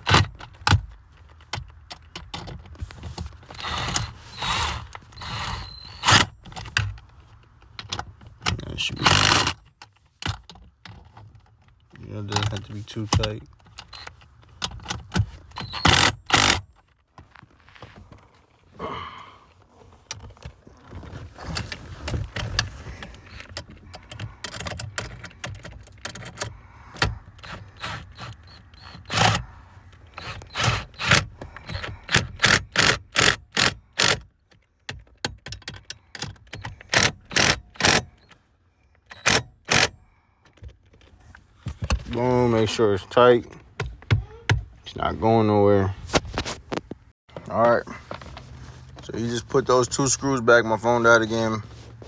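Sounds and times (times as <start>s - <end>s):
hand tools clicking and scraping metal: 0.0s - 17.0s, 19.9s - 44.6s.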